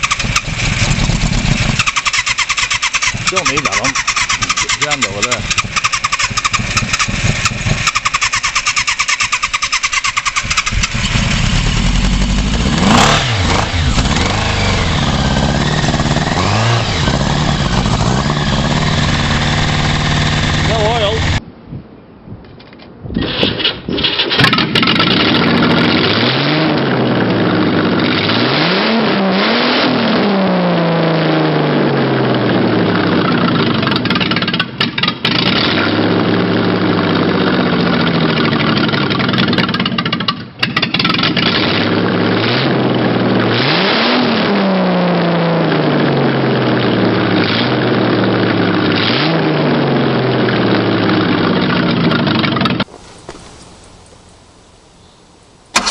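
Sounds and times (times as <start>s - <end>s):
engine starting and revving: 0.0s - 21.4s, 23.2s - 52.9s.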